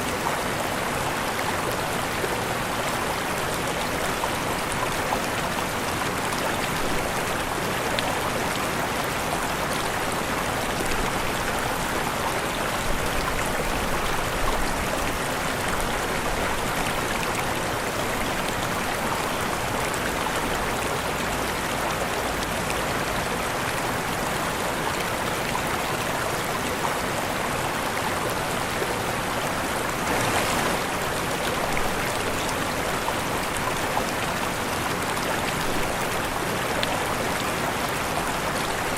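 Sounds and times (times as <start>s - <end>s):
waterfall rushing: 0.1s - 21.5s, 27.4s - 38.9s.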